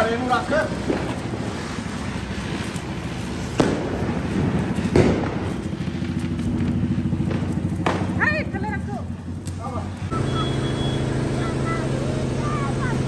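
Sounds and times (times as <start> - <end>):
firework sharp cracks: 0.0 - 13.0
fireworks hissing: 0.0 - 13.0.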